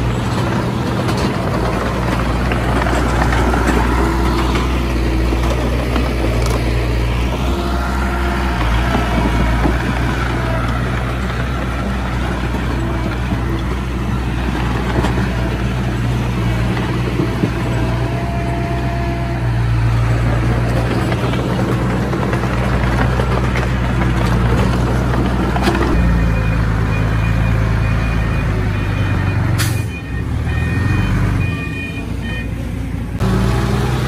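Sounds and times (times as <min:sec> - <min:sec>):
bulldozer diesel engine under load: 0:00.0 - 0:34.0.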